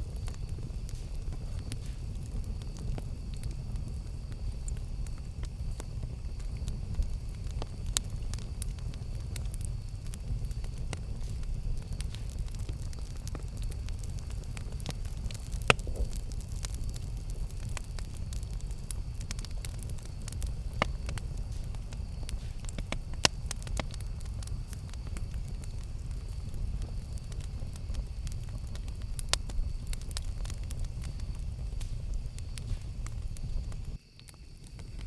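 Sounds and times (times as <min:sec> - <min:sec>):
campfire rumble: 0:00.0 - 0:35.0
wood popping and crackling: 0:00.0 - 0:35.0.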